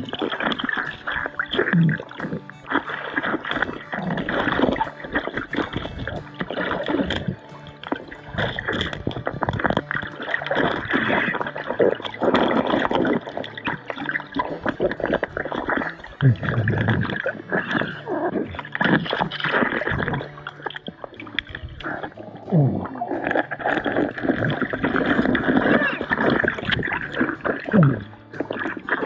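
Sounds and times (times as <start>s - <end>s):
water gurgling underwater: 0.0s - 29.0s.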